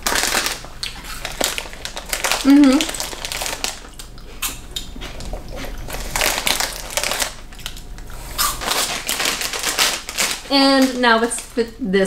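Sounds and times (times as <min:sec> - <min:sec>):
plastic snack bag crinkling: 0:00.0 - 0:04.6, 0:05.9 - 0:11.7
snack crunching being eaten: 0:00.0 - 0:10.5.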